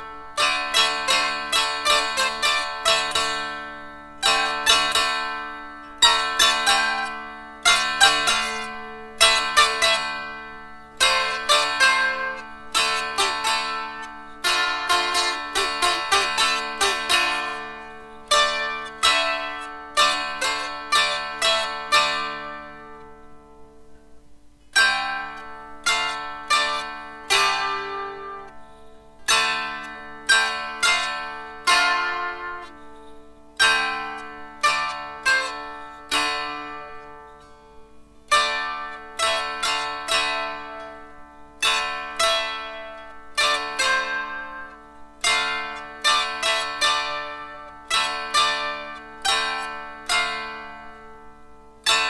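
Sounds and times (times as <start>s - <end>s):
dulcimer strummed notes: 0.0s - 52.0s.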